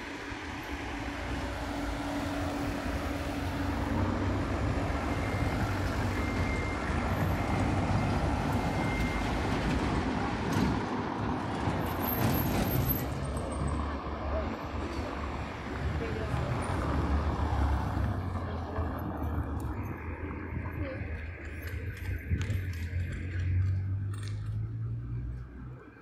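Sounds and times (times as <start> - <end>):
passing cars and truck: 0.0 - 26.0.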